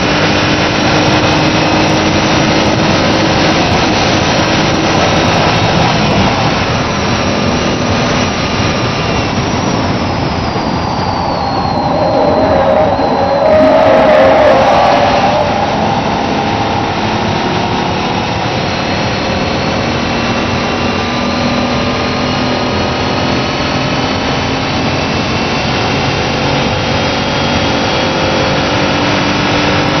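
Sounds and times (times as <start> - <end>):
car engine accelerating: 0.0 - 30.0
road noise: 0.0 - 30.0.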